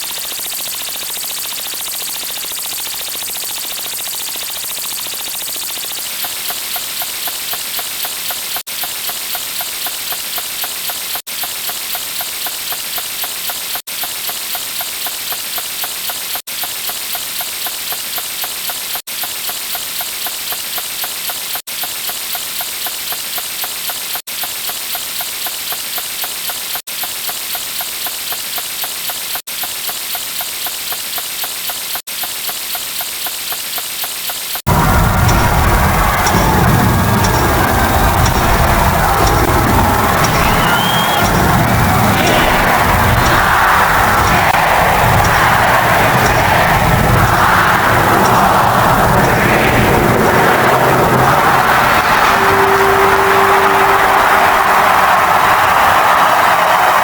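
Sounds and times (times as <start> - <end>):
fast flutter: 0.0 - 52.1.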